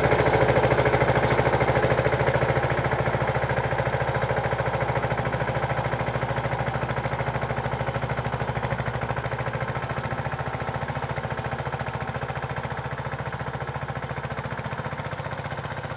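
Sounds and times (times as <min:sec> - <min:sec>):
tractor diesel engine chugging: 0:00.0 - 0:15.9.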